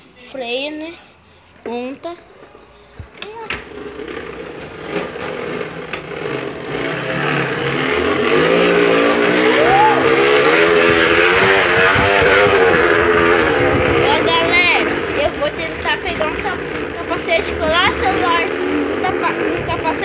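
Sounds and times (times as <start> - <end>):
bicycle wheel noisemaker buzzing: 3.7 - 20.0.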